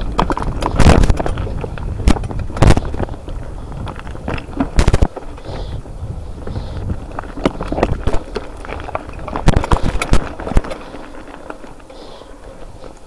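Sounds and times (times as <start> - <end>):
bike clattering over stones: 0.0 - 13.0.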